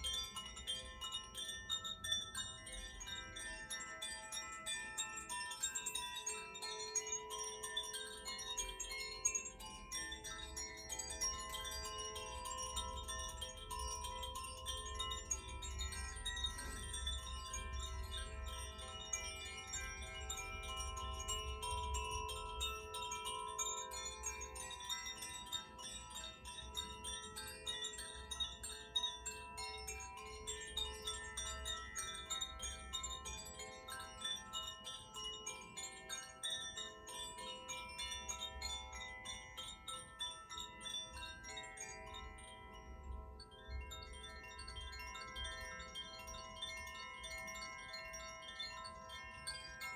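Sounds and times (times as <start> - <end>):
wind chimes ringing: 0.0 - 49.9.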